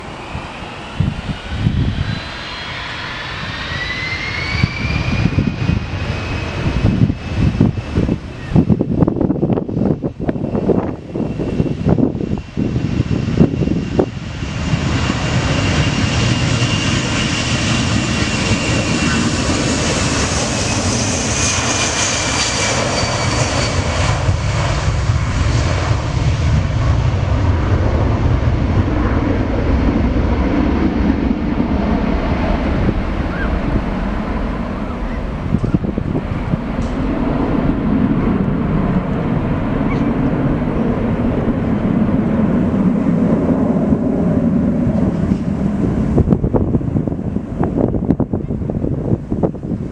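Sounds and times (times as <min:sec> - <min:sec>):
jet engine whine: 0:00.0 - 0:49.9
jet engines rumbling: 0:00.0 - 0:49.9.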